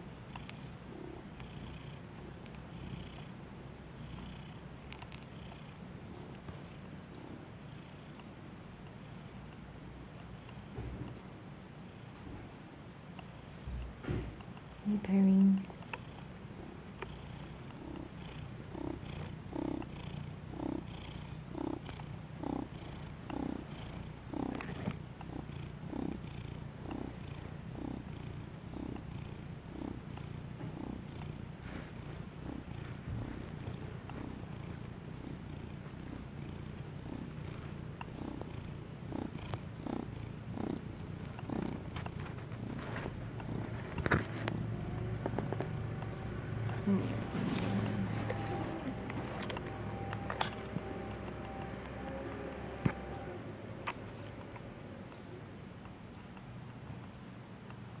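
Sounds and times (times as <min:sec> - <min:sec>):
cat purring: 0:00.0 - 0:11.2, 0:11.8 - 0:58.0.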